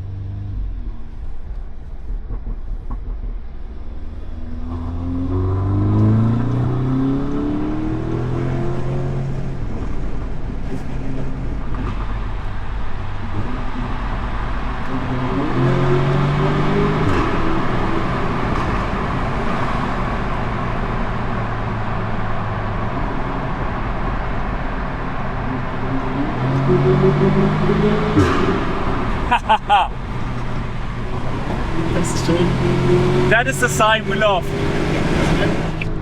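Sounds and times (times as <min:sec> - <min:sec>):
car engine accelerating: 0:00.0 - 0:36.0
tyre and road noise: 0:00.0 - 0:36.0.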